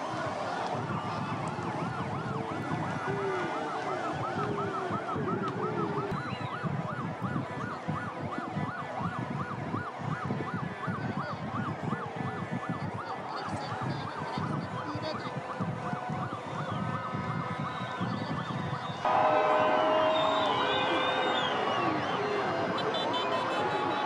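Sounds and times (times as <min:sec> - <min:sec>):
steady background din: 0:00.0 - 0:24.0
siren yelping: 0:00.7 - 0:24.0.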